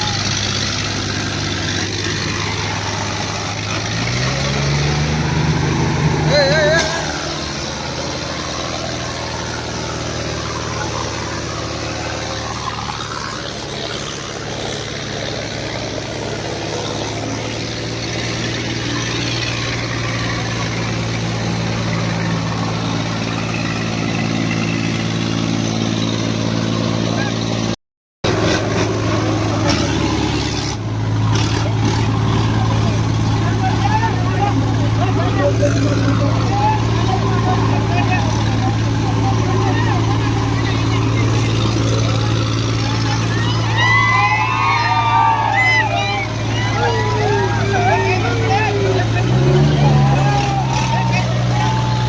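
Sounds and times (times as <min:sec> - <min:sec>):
tractor engines running hard: 0:00.0 - 0:52.0.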